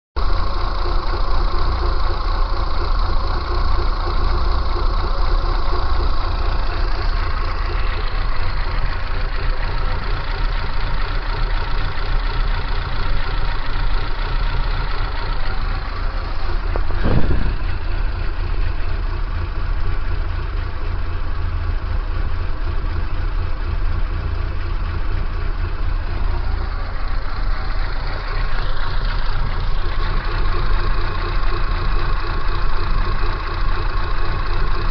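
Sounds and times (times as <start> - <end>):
car engine idling: 0.2 - 34.9.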